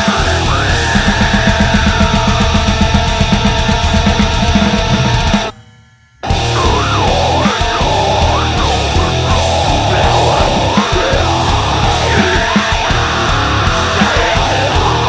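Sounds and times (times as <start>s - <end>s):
fast drum beat: 0.0s - 5.5s, 6.2s - 15.0s
distorted guitars: 0.0s - 15.0s.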